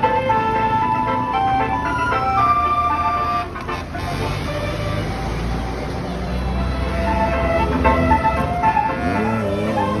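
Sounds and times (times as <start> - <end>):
bus engine rumble: 0.0 - 10.0
multi-tone bus horn melody: 0.0 - 10.0.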